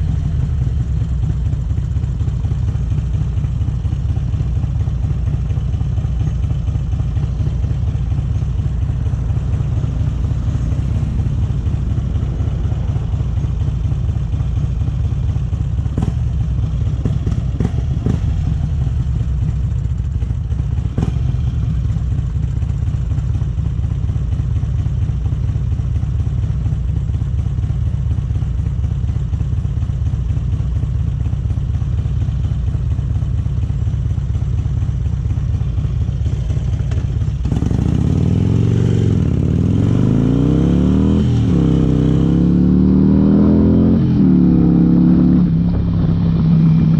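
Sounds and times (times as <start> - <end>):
motorcycle engine rumbling: 0.0 - 46.9.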